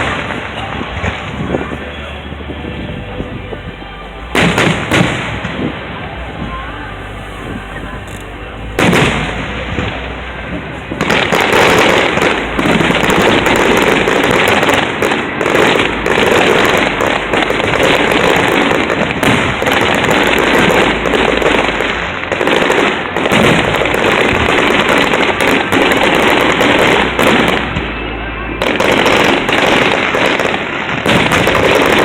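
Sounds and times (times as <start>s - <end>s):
fireworks bangs and crackle: 0.0s - 32.0s.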